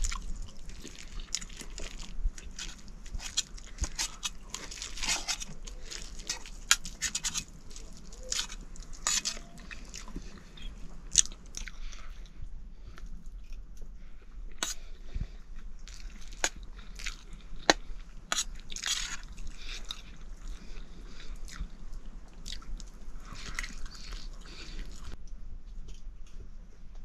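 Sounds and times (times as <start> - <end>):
person chewing and biting: 0.0 - 12.2, 15.6 - 25.2.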